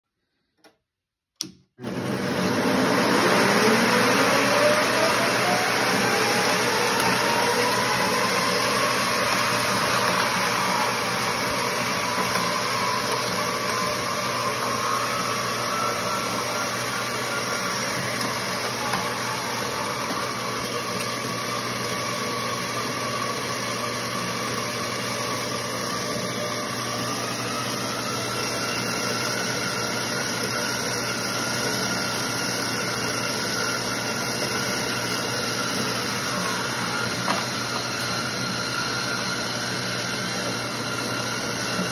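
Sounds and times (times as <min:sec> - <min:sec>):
treadmill motor whine and belt: 0:01.8 - 0:41.9.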